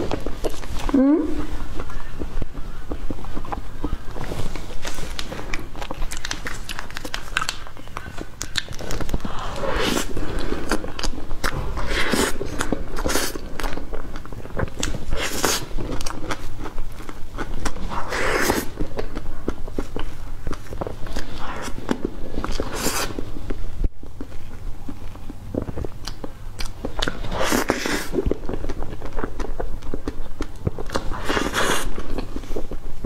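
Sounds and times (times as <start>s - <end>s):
wet chewing and lip smacking: 0.0s - 33.0s.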